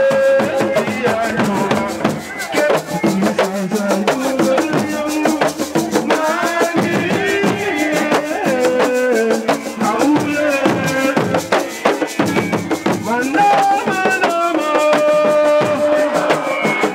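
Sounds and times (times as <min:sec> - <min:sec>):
fast dense drumming: 0:00.0 - 0:16.9
person singing: 0:00.0 - 0:16.9.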